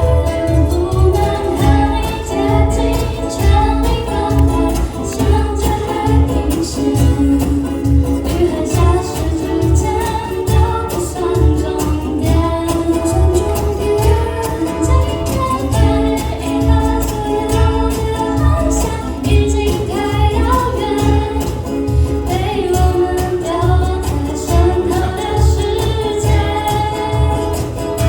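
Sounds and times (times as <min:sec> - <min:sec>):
steady drum beat: 0:00.0 - 0:28.0
ukuleles strumming: 0:00.0 - 0:28.0
woman singing: 0:00.0 - 0:28.0.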